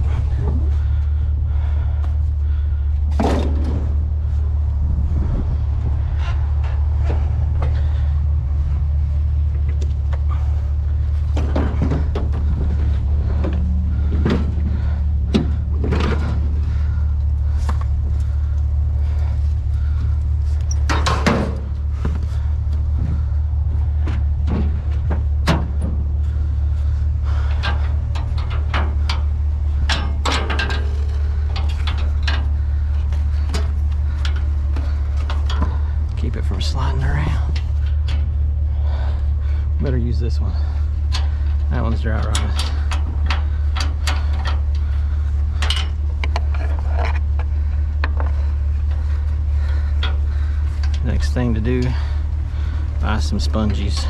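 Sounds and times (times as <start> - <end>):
knocks and clunks: 0.0 - 54.0
vehicle engine rumbling: 0.0 - 54.0.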